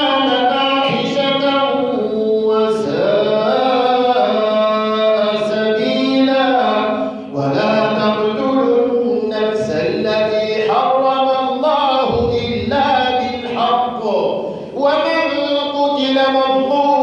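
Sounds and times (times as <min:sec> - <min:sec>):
person chanting melodic recitation: 0:00.0 - 0:17.0.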